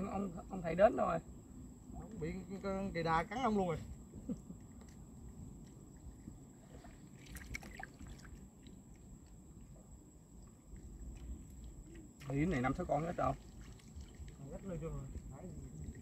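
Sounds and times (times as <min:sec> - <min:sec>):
water sloshing and trickling: 0:01.8 - 0:16.0.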